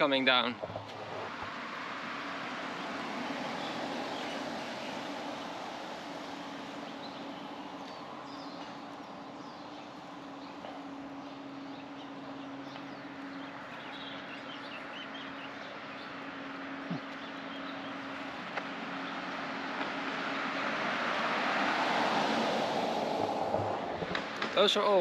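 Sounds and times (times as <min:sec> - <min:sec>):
birds chirping: 0:00.0 - 0:25.0
car road noise hum: 0:00.0 - 0:25.0.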